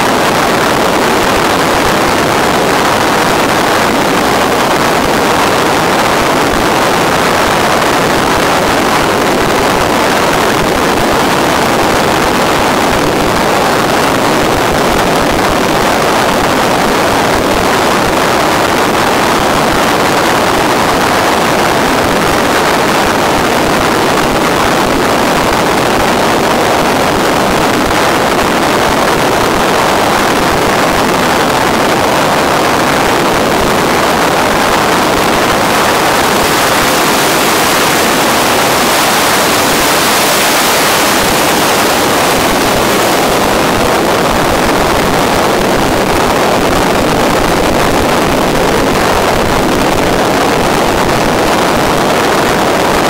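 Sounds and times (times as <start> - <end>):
steady rushing noise: 0.0 - 53.0.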